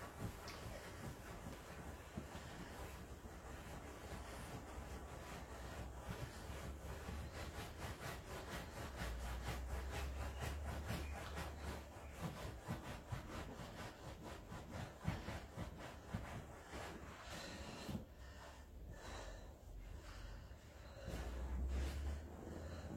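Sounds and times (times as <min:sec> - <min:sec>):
rhythmic rubbing strokes: 0:00.0 - 0:18.4.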